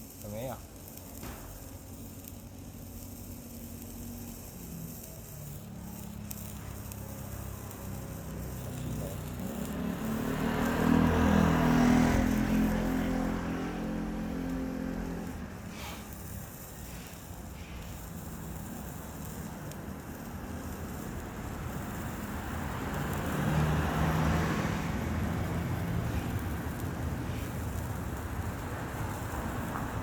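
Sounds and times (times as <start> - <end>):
vehicle engine passing by: 3.2 - 30.0.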